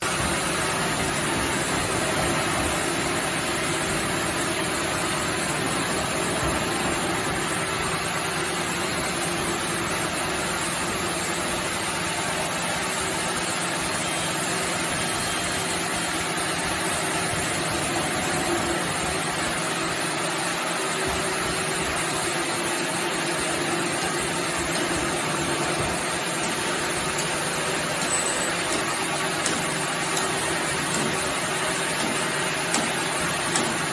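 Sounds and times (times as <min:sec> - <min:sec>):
sawmill machinery humming: 0:00.0 - 0:33.9.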